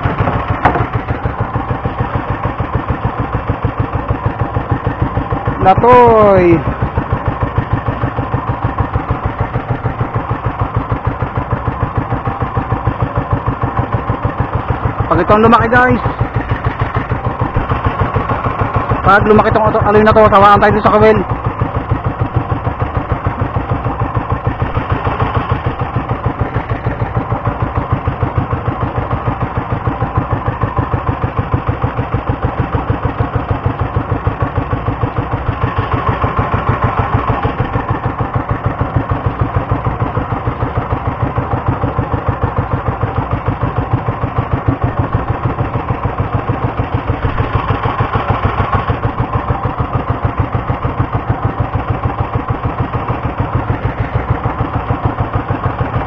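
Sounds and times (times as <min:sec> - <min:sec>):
small boat engine chugging: 0:00.0 - 0:56.0.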